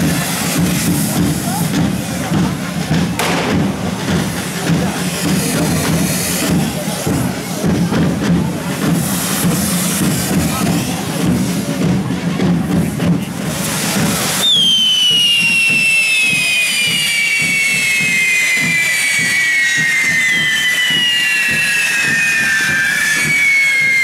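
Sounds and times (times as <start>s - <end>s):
fireworks spraying sparks hiss: 0.0s - 24.0s
fireworks whistling: 0.0s - 24.0s.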